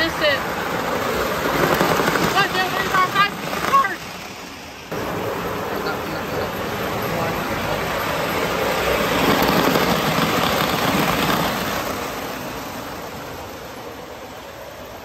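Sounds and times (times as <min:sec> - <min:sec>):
model train rolling on metal track: 0:00.0 - 0:15.0.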